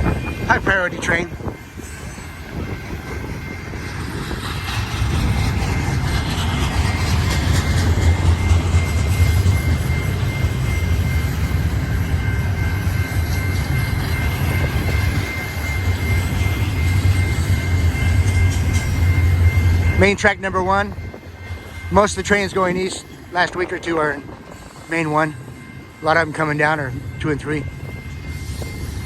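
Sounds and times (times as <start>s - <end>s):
freight train cars rolling past: 0.0s - 29.0s.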